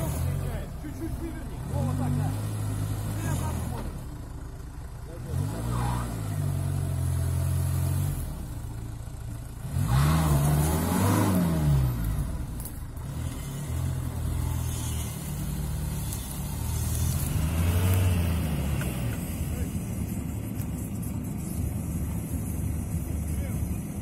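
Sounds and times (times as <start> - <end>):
vehicle engine revving under load: 0.0 - 24.0.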